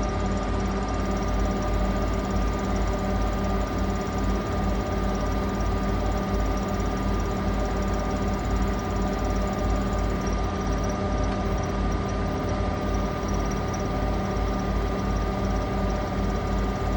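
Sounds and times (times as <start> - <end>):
washing machine spinning: 0.0 - 16.9
high whine: 1.0 - 11.7, 12.4 - 16.9.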